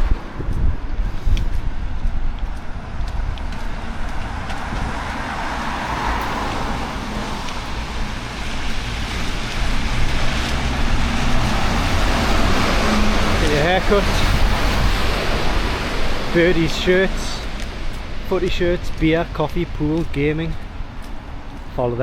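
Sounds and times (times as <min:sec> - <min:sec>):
wind rumbling on microphone: 0:00.0 - 0:22.0
tyres hissing on wet street: 0:00.2 - 0:22.0.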